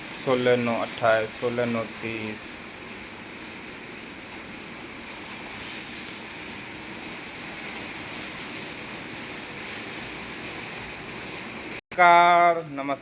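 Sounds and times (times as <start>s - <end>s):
hand sanding steel rim: 0.0s - 11.2s.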